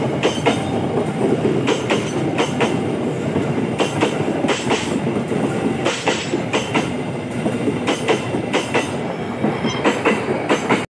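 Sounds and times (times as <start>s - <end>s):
railway carriages rolling rumble: 0.0s - 10.9s
train wheels clacking over rail joints: 0.0s - 10.9s.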